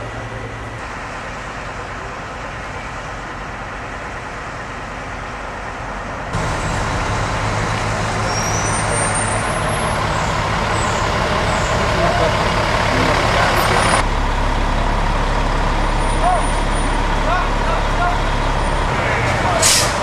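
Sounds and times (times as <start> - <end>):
fire truck engine running: 0.0 - 20.0.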